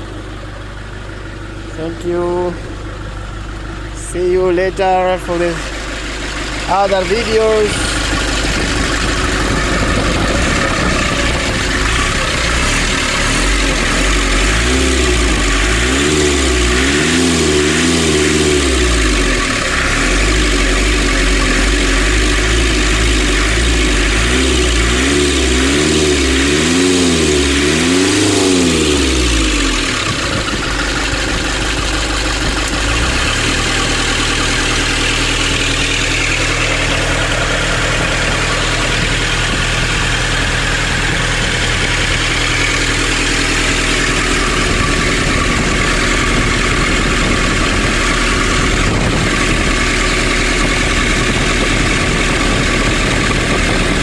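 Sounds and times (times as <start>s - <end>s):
diesel engine revving and idling: 0.0s - 54.0s.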